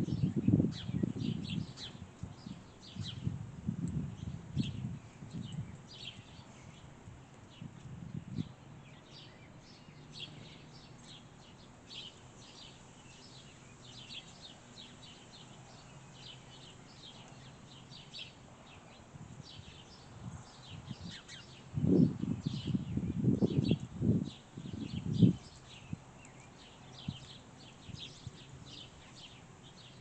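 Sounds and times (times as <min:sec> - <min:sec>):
faint outdoor background: 0:00.0 - 0:30.0
songbirds chirping: 0:00.0 - 0:30.0.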